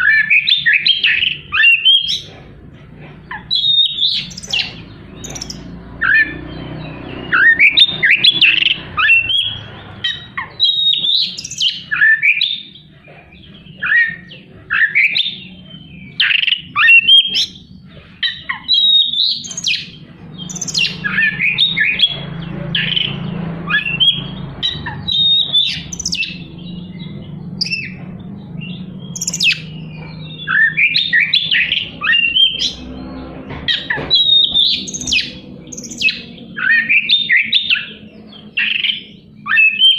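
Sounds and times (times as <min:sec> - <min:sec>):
songbird singing and whistling: 0:00.0 - 0:02.5, 0:03.1 - 0:39.9.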